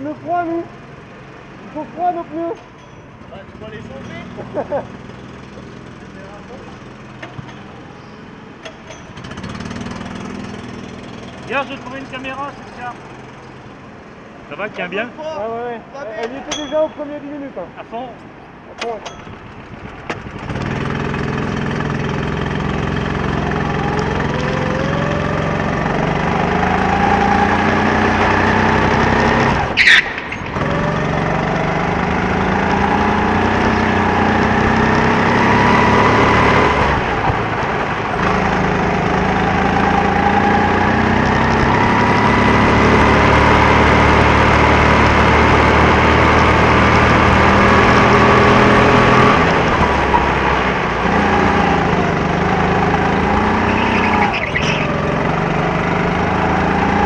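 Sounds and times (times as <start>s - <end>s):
go-kart engine revving: 3.4s - 7.5s, 9.1s - 13.5s, 19.2s - 57.0s.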